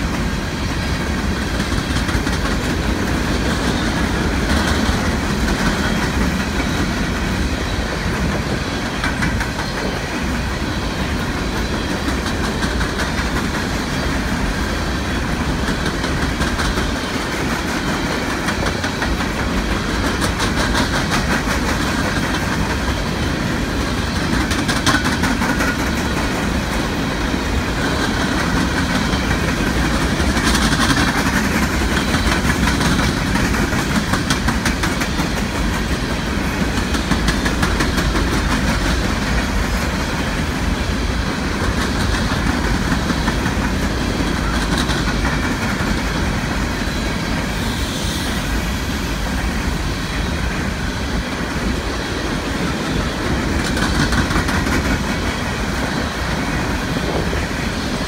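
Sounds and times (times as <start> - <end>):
wheels clacking over rails: 0.0 - 47.5, 50.4 - 58.0
freight train rolling past: 0.0 - 58.0.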